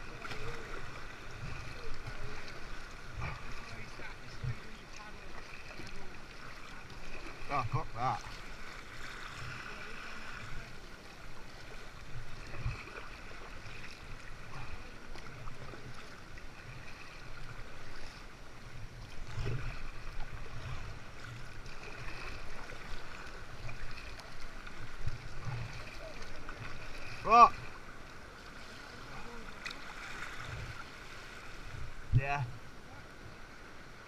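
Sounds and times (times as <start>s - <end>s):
water sloshing and splashing: 0.0s - 34.0s.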